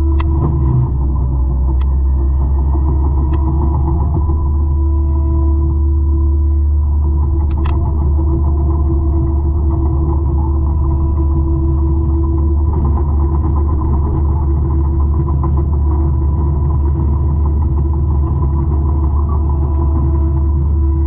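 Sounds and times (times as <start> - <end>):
forestry mulcher engine drone: 0.0 - 21.0
steady whine: 0.0 - 21.0.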